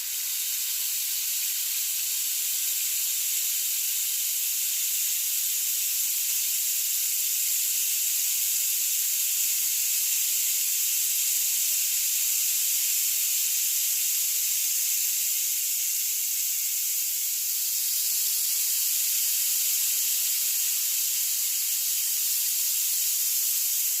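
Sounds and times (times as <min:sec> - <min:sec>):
rain stick hiss: 0:00.0 - 0:24.0.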